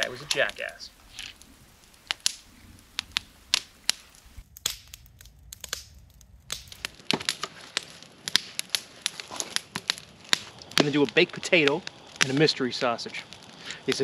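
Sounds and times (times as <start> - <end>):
campfire wood crackling: 0.0 - 14.0
wood snapping and popping: 0.0 - 14.0.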